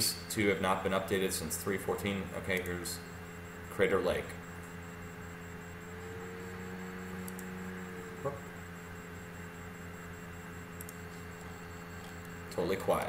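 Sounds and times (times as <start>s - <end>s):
electrical hum: 0.0s - 13.0s
faint held tone: 2.2s - 13.0s.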